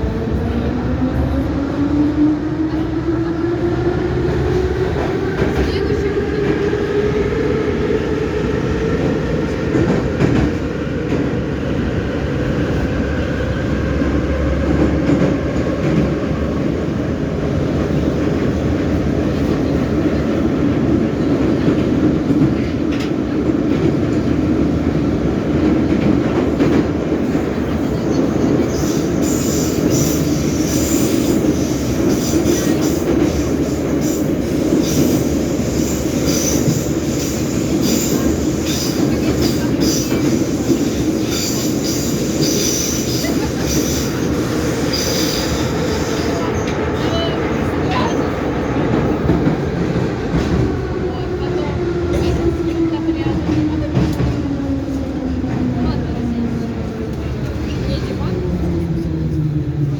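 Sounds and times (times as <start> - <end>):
metro train rumble in tunnel: 0.0 - 59.9.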